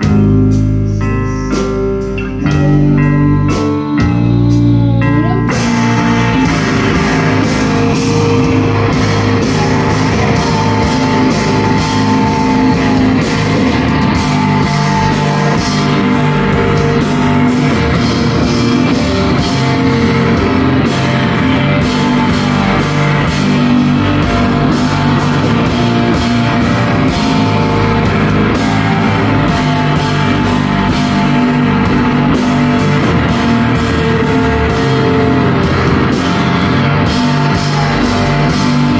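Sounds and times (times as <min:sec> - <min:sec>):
distorted electric guitars: 0:00.0 - 0:38.9
drum kit playing: 0:00.0 - 0:38.9.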